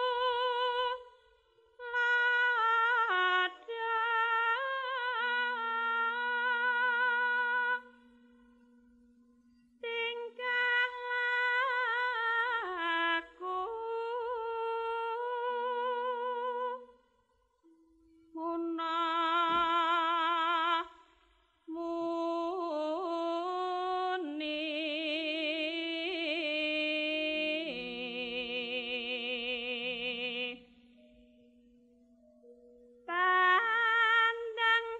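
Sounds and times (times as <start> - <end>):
woman singing with vibrato: 0.0 - 1.2, 1.8 - 8.1, 9.8 - 16.9, 18.3 - 21.0, 21.7 - 30.8, 33.1 - 34.9.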